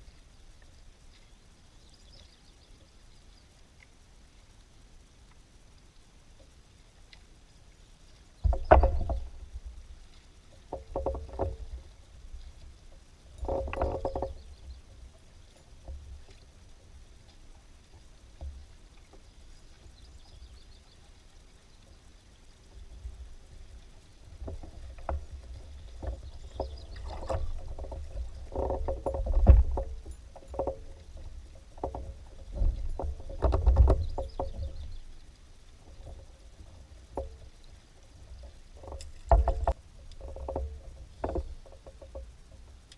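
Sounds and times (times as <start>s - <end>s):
low rumble of water: 0.0s - 42.9s.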